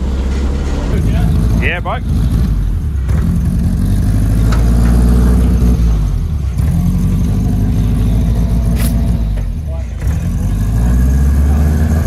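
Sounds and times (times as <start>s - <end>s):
turbocharged car engine running: 0.0s - 12.0s.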